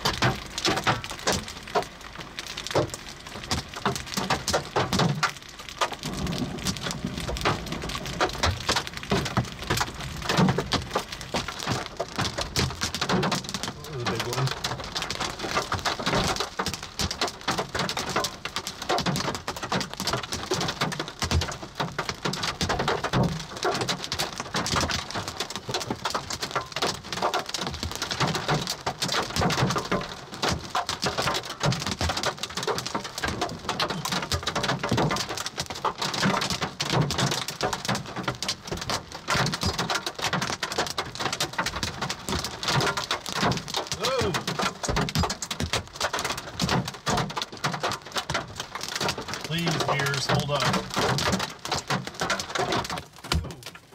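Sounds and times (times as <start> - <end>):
hail pelting car roof: 0.0 - 53.9
pouring rain: 0.0 - 53.9.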